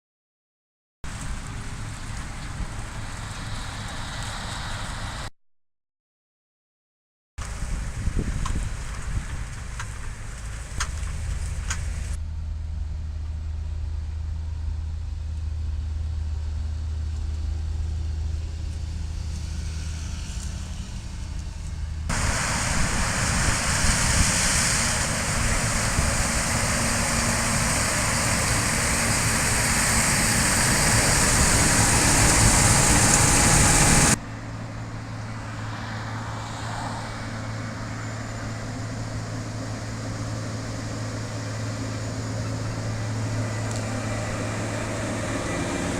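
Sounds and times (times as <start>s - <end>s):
harvester engine drone: 7.4s - 45.9s.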